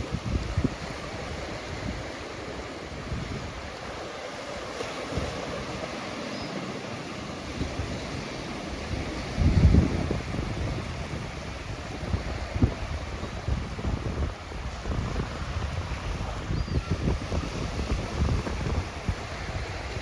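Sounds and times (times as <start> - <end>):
wind buffeting microphone: 0.0 - 6.3, 7.3 - 20.0
ocean surf washing on beach: 0.0 - 20.0.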